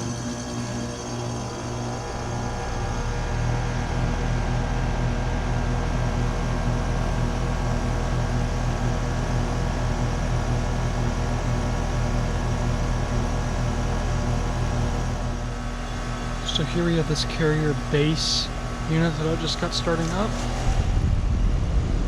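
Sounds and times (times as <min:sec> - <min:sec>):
compressor humming: 0:00.0 - 0:22.0
condenser fan blowing: 0:00.0 - 0:22.0.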